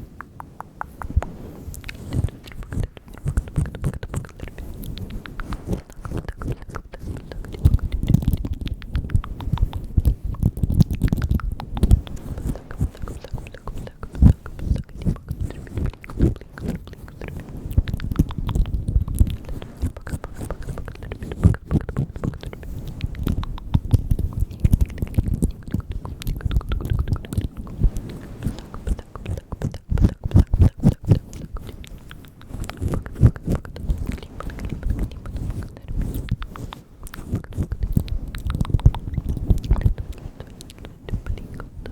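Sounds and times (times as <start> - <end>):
wet mouth clicks and smacks: 0.0 - 41.9.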